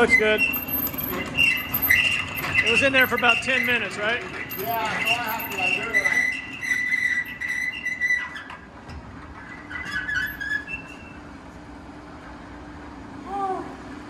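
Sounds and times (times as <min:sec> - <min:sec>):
metal squealing: 0:00.0 - 0:11.4.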